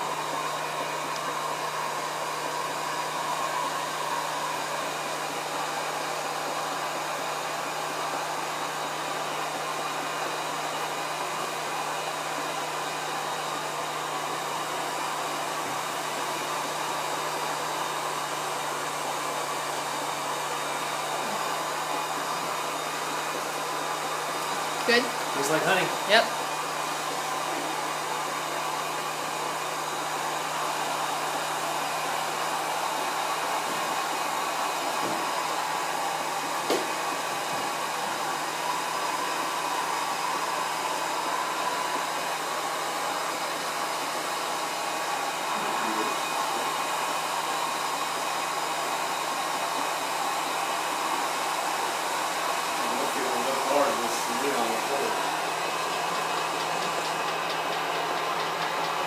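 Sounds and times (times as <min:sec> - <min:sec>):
honey extractor whirring: 0:00.0 - 0:59.0.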